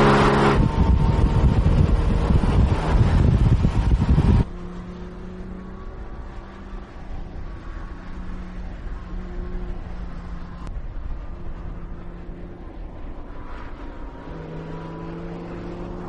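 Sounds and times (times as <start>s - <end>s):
car engine at speed: 0.0s - 16.0s
road noise: 0.0s - 16.0s
steady engine hum: 0.0s - 16.0s.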